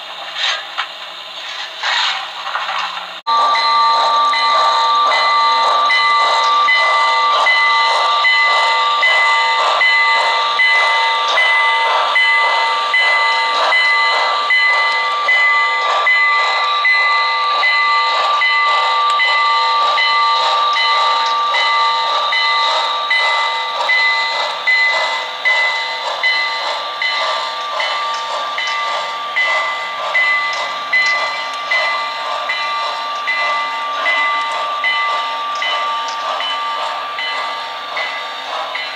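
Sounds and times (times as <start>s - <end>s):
model steam locomotive chuffing: 0.0s - 38.9s.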